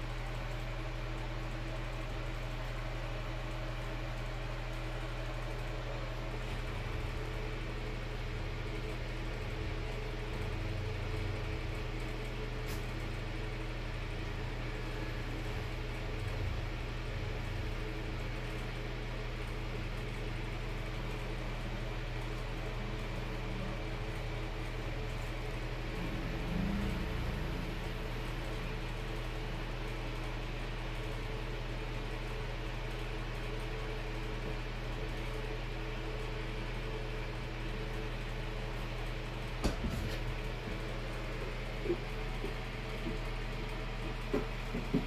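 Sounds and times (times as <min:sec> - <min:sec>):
appliance humming: 0:00.0 - 0:45.0.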